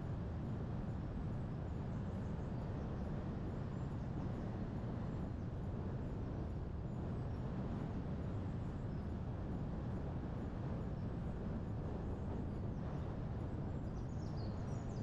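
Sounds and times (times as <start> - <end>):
wind and road noise from car: 0.0 - 15.0.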